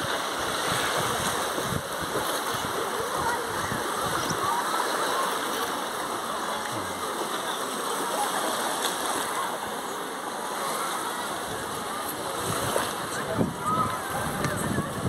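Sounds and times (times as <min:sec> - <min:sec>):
small waves lapping: 0:00.0 - 0:15.0
distant indistinct voices: 0:02.6 - 0:15.0.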